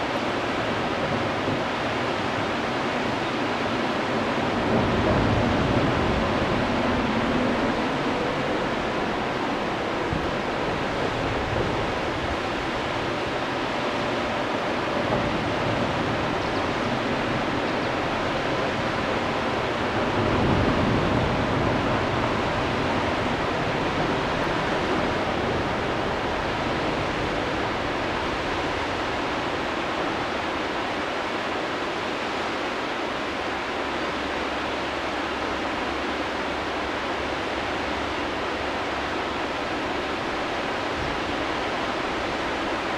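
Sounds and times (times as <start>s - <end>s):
whitewater rapids rushing: 0.0s - 42.9s.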